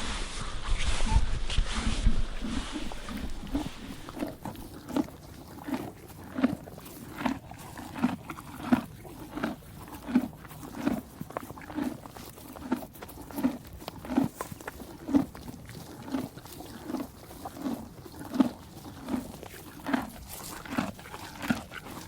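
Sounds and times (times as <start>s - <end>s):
rustle: 0.0s - 22.0s
horse chewing hay: 2.1s - 22.0s.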